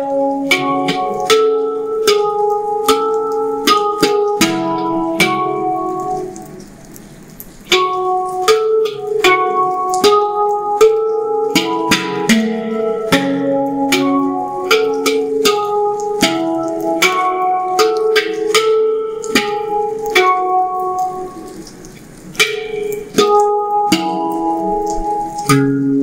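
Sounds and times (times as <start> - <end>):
handpan notes ringing: 0.0 - 26.0
rain hissing: 0.0 - 26.0.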